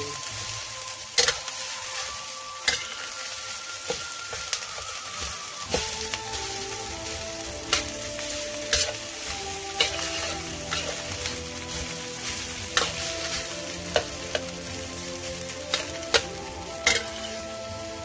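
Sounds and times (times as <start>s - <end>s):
metal spatula scraping a wok: 0.0s - 18.0s
rice sizzling in a wok: 0.0s - 18.0s.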